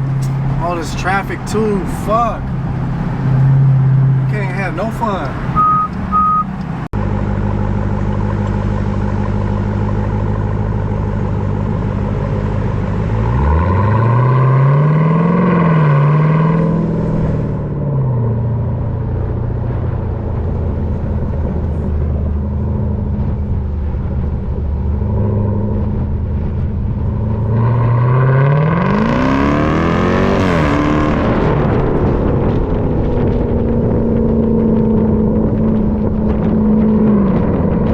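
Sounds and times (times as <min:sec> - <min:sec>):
car engine accelerating hard: 0:00.0 - 0:37.9
supercharger whine: 0:00.0 - 0:37.9.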